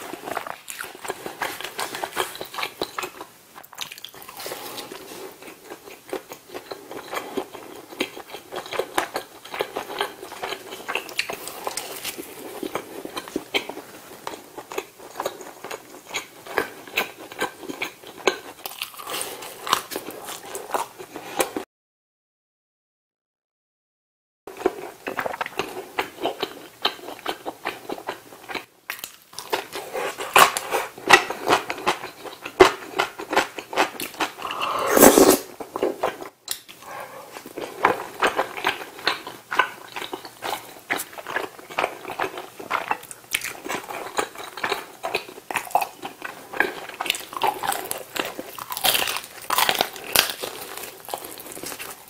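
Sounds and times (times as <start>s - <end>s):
close chewing and crunching: 0.0s - 21.6s, 24.5s - 34.7s, 35.6s - 52.0s.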